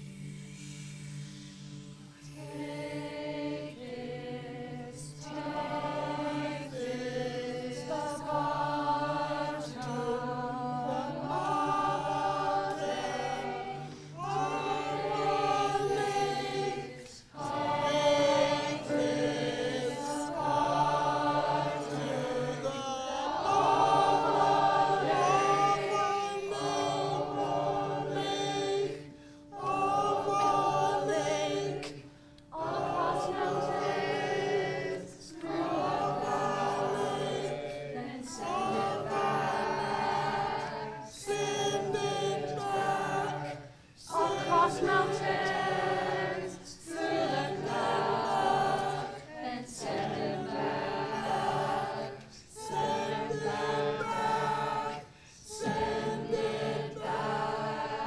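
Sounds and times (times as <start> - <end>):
choir singing unaccompanied: 0.0 - 58.0.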